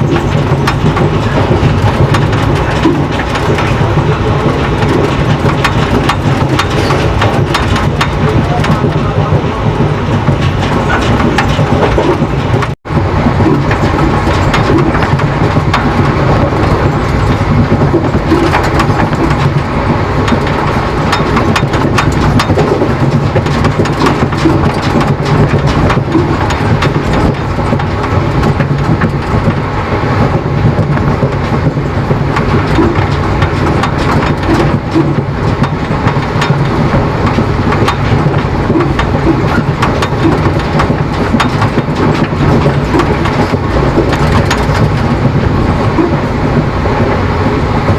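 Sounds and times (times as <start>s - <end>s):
train wheels on rails: 0.0s - 47.9s.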